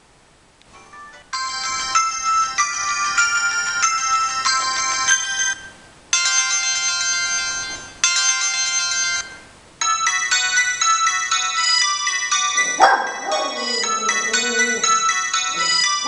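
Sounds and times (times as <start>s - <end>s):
phone ringtone melody: 0.8s - 16.0s.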